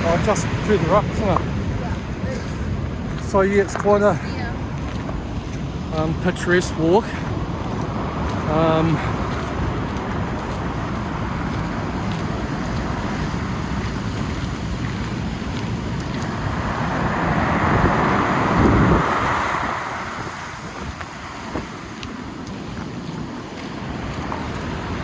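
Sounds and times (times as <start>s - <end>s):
surf breaking: 0.0s - 5.3s, 7.8s - 25.0s
wind on microphone: 0.0s - 25.0s.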